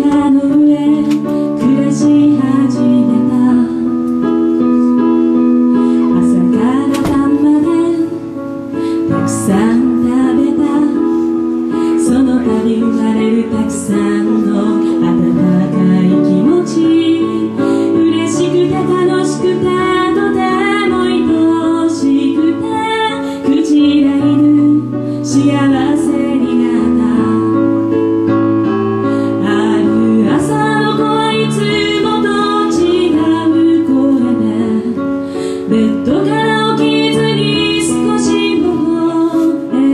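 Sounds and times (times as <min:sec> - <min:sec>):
woman singing: 0:00.0 - 0:28.4, 0:29.1 - 0:39.9
electric keyboard chords: 0:00.0 - 0:39.9.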